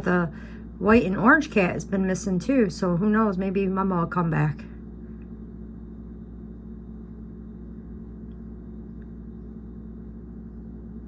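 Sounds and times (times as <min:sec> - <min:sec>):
low machine hum with tones: 0:00.0 - 0:11.0.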